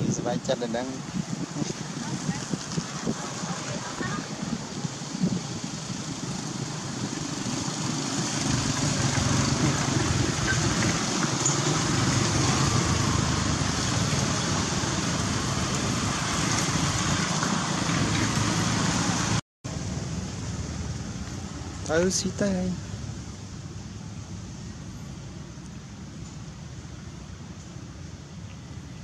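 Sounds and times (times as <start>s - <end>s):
traffic rumble and hiss: 0.0s - 29.0s.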